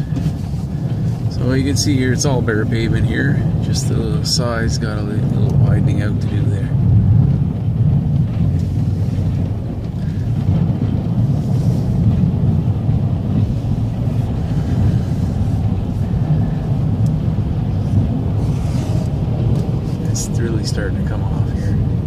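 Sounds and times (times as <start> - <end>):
plow truck engine rumbling: 0.0 - 22.0.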